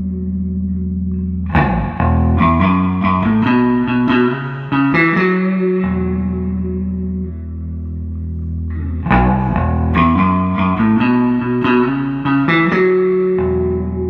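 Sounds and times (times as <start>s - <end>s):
bass guitar notes: 0.0s - 14.0s.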